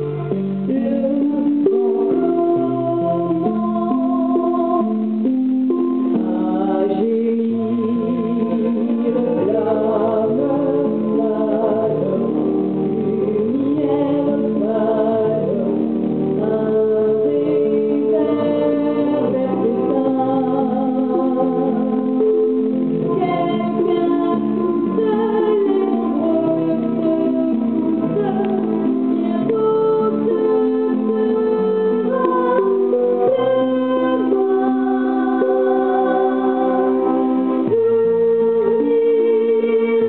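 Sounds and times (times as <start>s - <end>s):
instrumental accompaniment: 0.0s - 40.0s
woman singing a slow ballad: 0.1s - 22.5s, 23.1s - 40.0s.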